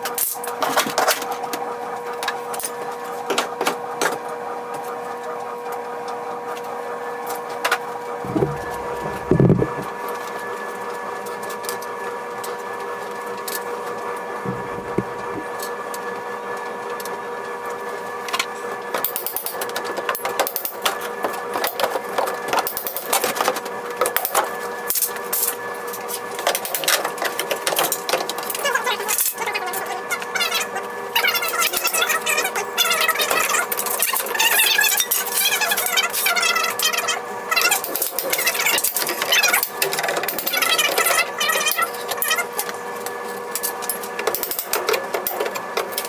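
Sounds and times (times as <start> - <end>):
appliance hum: 0.0 - 18.9, 19.6 - 46.0.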